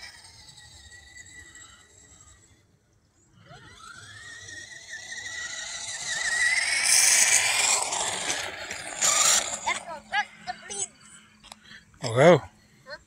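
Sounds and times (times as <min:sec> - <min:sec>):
toy truck electric motor whining: 0:00.0 - 0:13.0.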